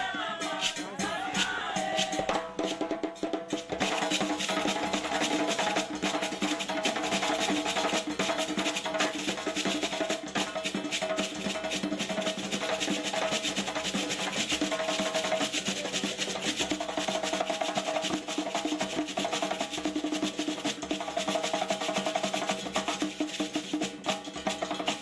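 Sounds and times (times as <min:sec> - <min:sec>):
fast hand drumming: 0:00.0 - 0:25.0.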